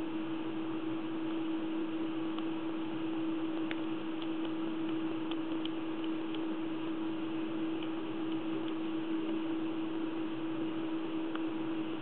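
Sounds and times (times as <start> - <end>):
steady hiss and hum: 0.0 - 12.0.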